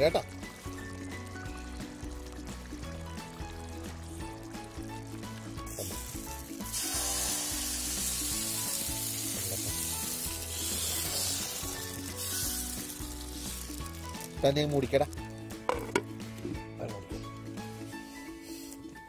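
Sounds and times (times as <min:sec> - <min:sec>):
batter sizzling on a pan: 0:00.0 - 0:16.0
background music: 0:00.0 - 0:19.0.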